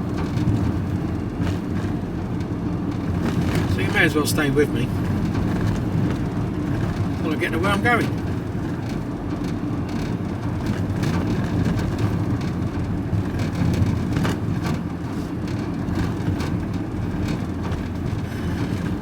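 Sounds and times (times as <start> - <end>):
van engine and tyre noise: 0.0 - 19.0.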